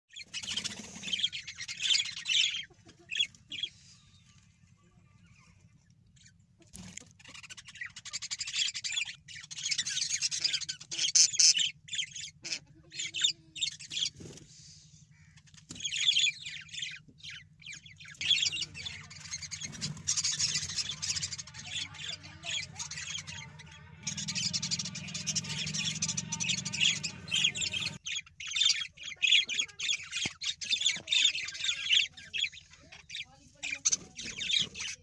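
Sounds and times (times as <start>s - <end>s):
budgerigars chirping and chattering: 0.1s - 35.0s.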